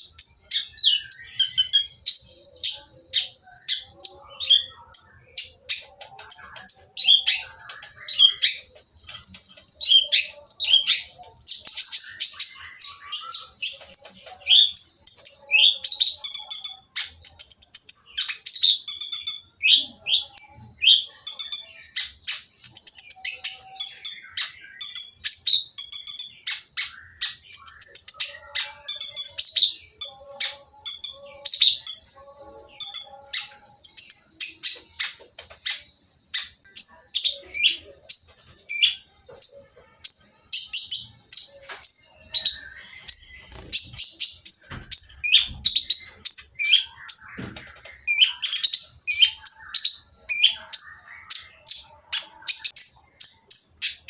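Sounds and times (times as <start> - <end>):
sunbird chirping and trilling: 0.0 - 54.0.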